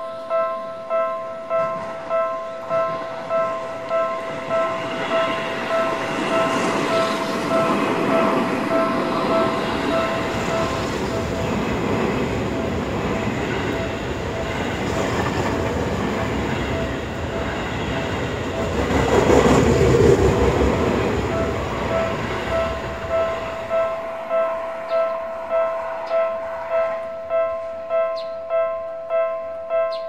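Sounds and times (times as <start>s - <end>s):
level crossing warning bell: 0.0s - 30.0s
train wheels rumbling on rails: 1.5s - 27.6s.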